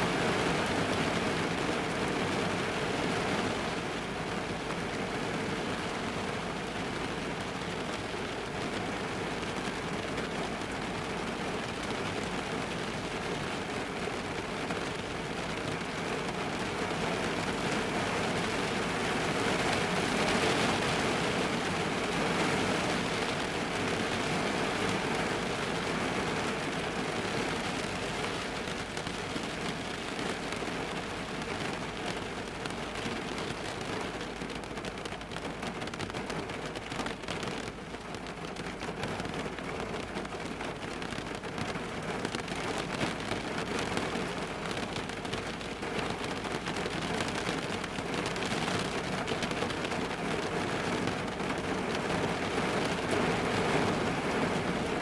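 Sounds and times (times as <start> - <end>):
rain on car roof: 0.0 - 55.0.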